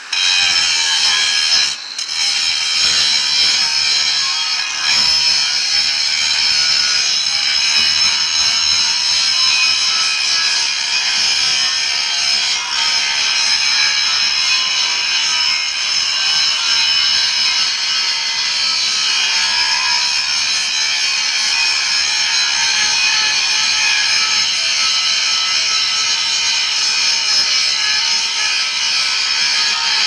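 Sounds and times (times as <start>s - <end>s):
tool grinding material: 0.0s - 30.0s.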